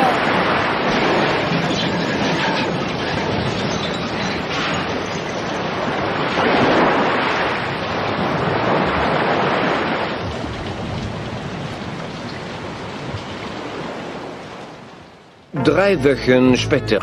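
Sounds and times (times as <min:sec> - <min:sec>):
rain: 0:00.0 - 0:16.2
waves: 0:00.0 - 0:17.0
wind: 0:00.0 - 0:17.0.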